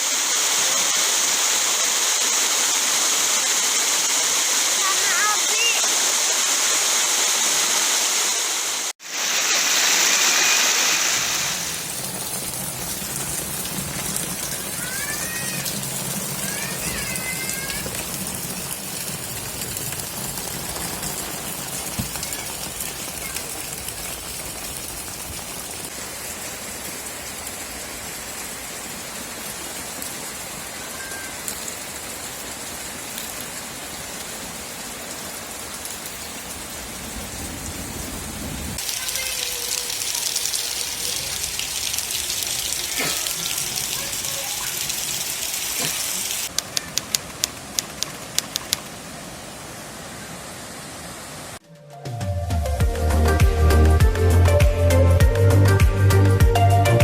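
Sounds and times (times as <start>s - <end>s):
falling water hiss: 0.0s - 51.6s.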